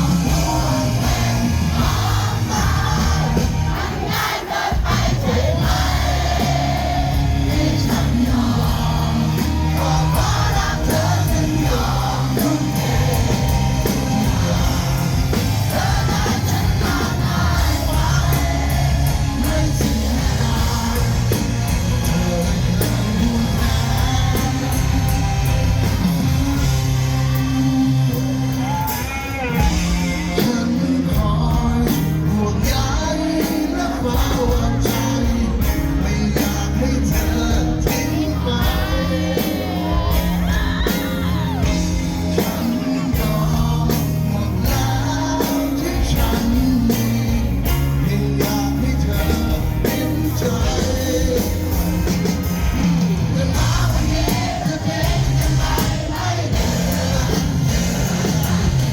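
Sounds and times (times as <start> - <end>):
rock band playing: 0.0 - 58.9.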